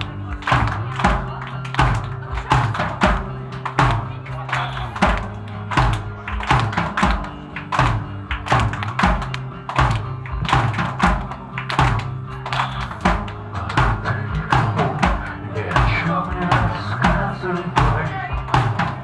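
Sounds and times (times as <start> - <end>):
drum kit beat: 0.0 - 19.0
rock band playing: 0.0 - 19.0.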